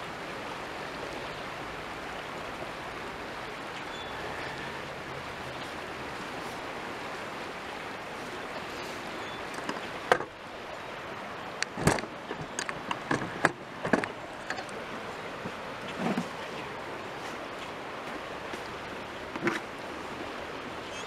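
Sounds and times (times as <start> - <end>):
rushing background noise: 3.2 - 21.0.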